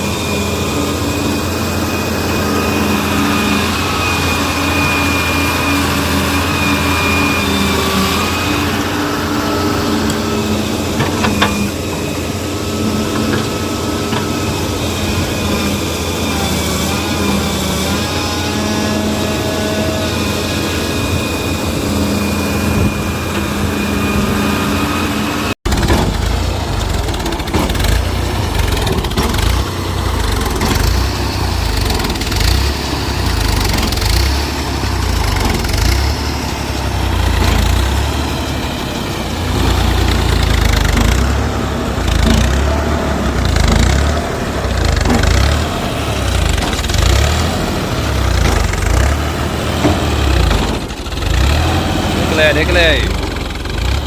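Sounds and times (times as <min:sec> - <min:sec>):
diesel engine rumble: 0:00.0 - 0:54.0.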